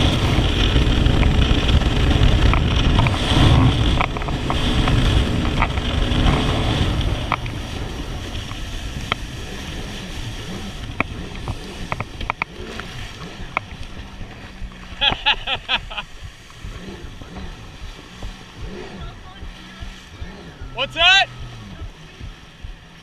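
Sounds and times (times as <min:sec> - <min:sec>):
jet ski engine: 0:00.0 - 0:23.0
water rushing and sloshing: 0:00.0 - 0:23.0.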